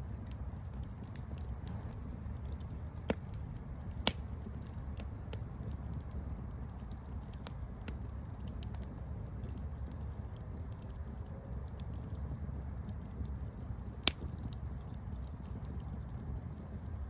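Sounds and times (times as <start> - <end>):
campfire crackling: 0.0 - 17.0
sharp pops of burning wood: 0.0 - 17.0.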